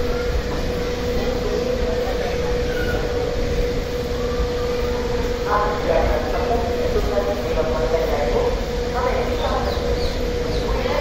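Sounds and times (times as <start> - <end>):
constant hum: 0.0 - 11.0
train coaches rumbling: 0.0 - 11.0.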